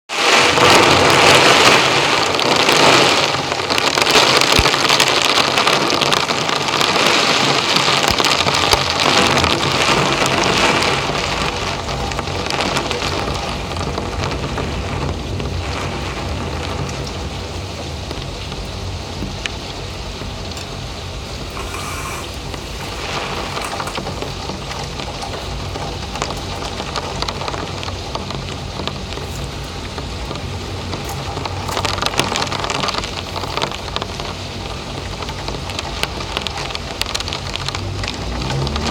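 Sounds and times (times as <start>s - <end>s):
storm wind rushing: 0.1s - 35.8s.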